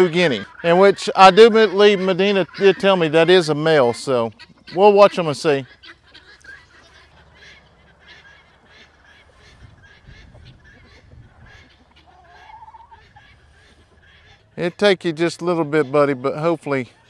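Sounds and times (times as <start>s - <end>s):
guinea fowl calling: 0.0s - 17.0s.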